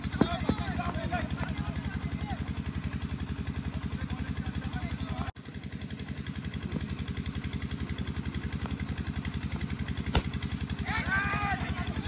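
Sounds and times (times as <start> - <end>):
engine running with low throb: 0.0 - 12.0.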